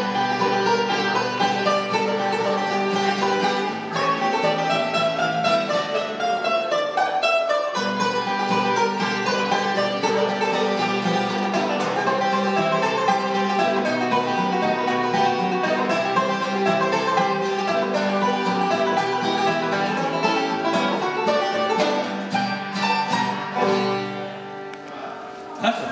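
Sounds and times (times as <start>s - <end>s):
acoustic guitar picking: 0.0s - 25.6s
banjo picking: 0.0s - 25.9s.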